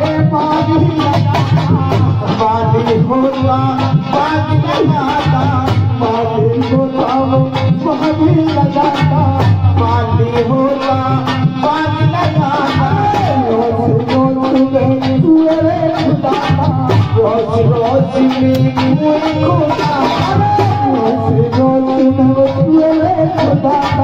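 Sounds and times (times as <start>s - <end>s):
hand drum beat: 0.0s - 24.0s.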